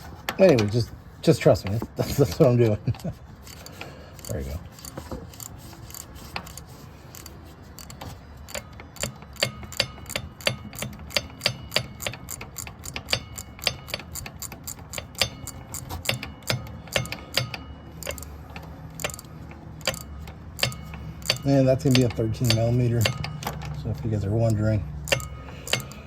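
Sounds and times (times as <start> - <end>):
ratchet wrench clicking: 2.2 - 26.0.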